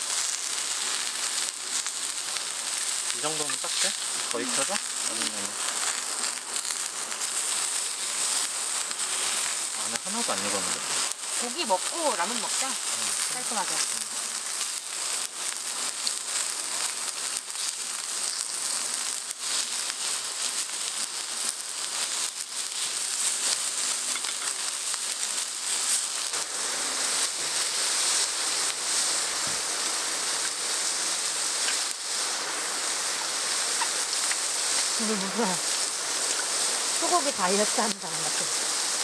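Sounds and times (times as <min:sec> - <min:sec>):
small pops and crackles: 0:00.0 - 0:26.5, 0:27.1 - 0:39.0
meat sizzling on a griddle: 0:00.0 - 0:39.0.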